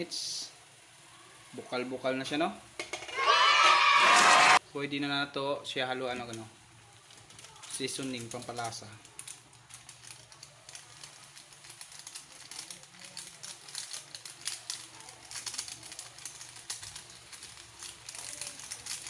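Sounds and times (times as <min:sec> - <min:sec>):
meat simmering in frying pan: 0:00.0 - 0:04.0, 0:04.6 - 0:19.0.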